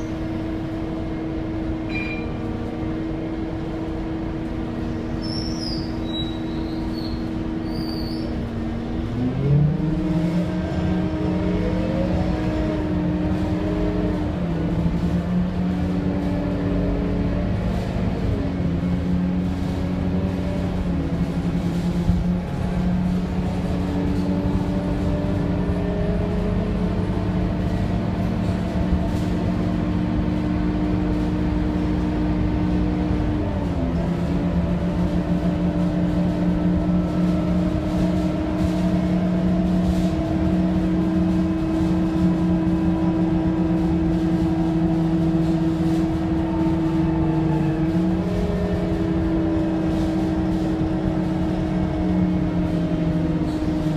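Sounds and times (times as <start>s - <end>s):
bus engine humming and whining: 0.0s - 53.9s.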